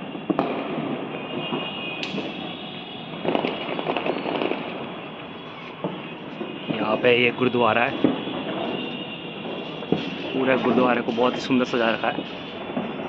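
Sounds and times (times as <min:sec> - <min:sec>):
firecracker crack: 0:00.0 - 0:13.0
firecrackers crackling pops: 0:00.0 - 0:13.0.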